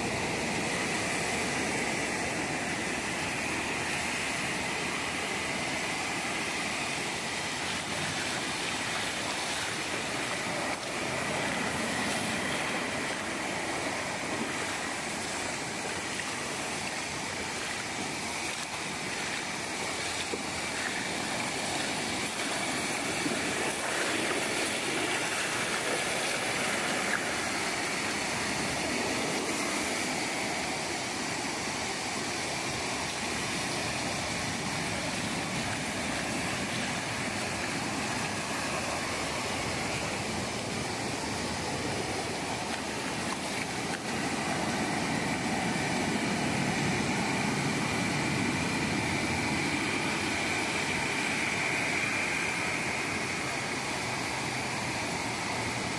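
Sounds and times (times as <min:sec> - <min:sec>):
small waves breaking on beach: 0:00.0 - 0:55.9.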